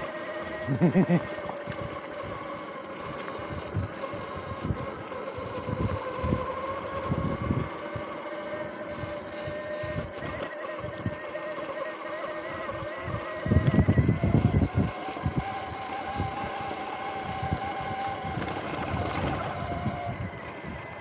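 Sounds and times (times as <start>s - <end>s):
electric bike motor whining: 0.0s - 21.0s.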